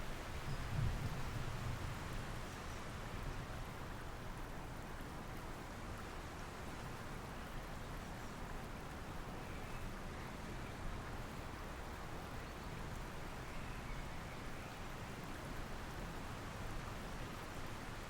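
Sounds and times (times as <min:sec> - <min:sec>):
river flowing: 0:02.0 - 0:18.0.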